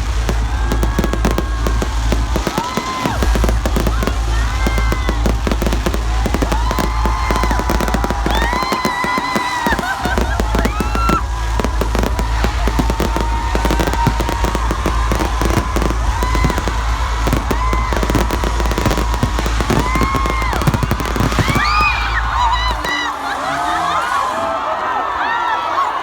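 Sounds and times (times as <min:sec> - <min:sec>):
deep rumble: 0:00.0 - 0:09.0, 0:10.0 - 0:22.9
fireworks crackling: 0:00.0 - 0:24.9.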